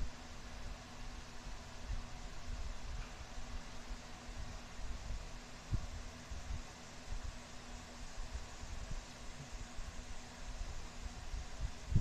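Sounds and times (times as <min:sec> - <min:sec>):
faint hum: 0:00.0 - 0:12.0
steady background hiss: 0:00.0 - 0:12.0.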